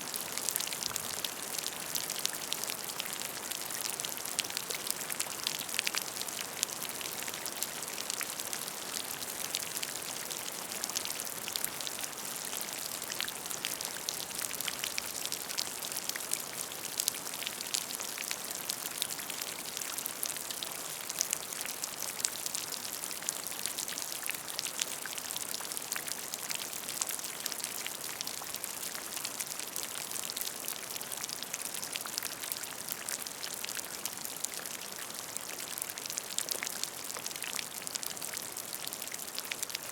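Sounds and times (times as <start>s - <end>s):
rain falling on a puddle: 0.0s - 39.9s.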